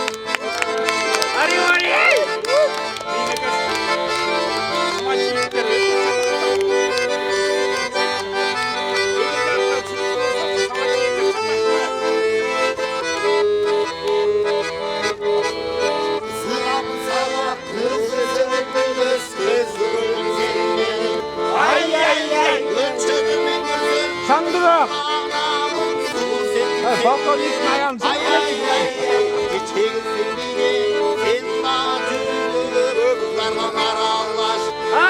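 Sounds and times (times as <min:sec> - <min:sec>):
accordion music: 0:00.0 - 0:35.0.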